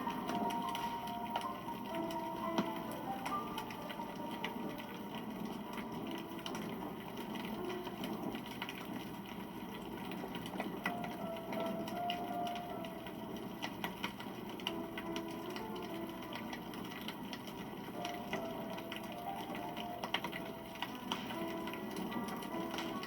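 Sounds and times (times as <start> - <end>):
wood campfire crackling: 0.0 - 23.0.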